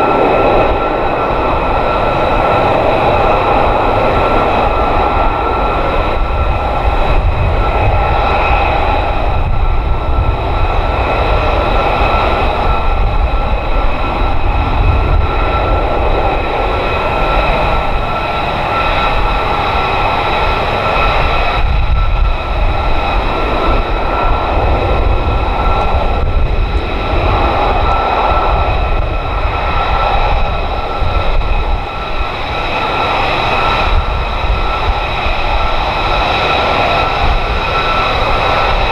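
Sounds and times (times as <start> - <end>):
jet engine whine and rumble: 0.0 - 38.9.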